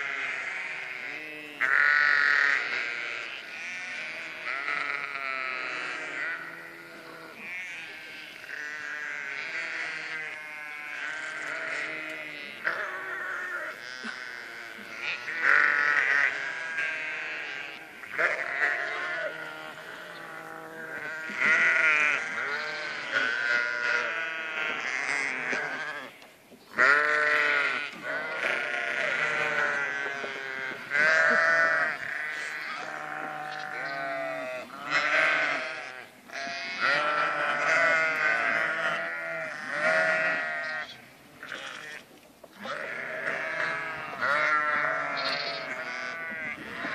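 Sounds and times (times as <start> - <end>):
sheep and lambs bleating: 0.0 - 46.9.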